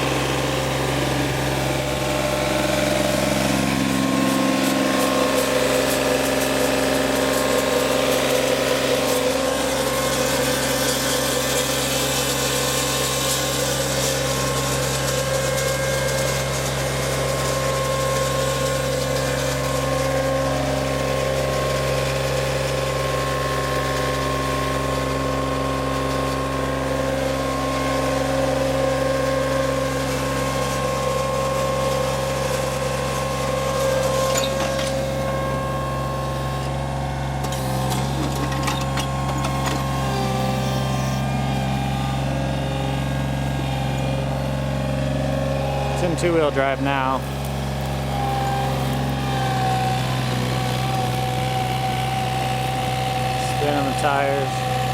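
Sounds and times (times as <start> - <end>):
diesel mower engine running: 0.0 - 54.9.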